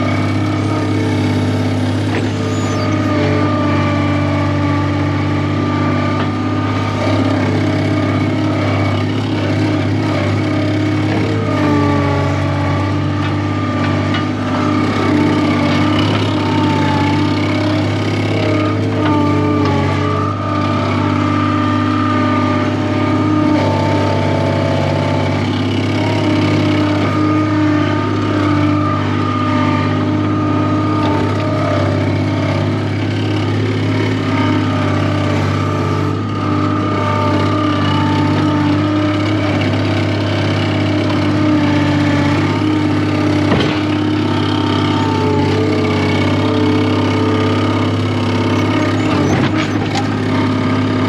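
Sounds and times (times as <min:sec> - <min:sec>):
skid steer engine running: 0:00.0 - 0:51.0.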